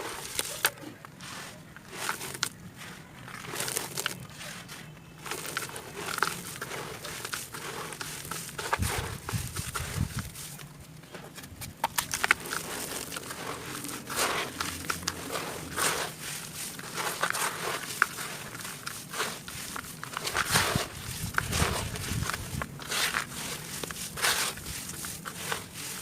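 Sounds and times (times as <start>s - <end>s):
crunchy food chewing: 0.0s - 11.2s, 11.8s - 26.0s.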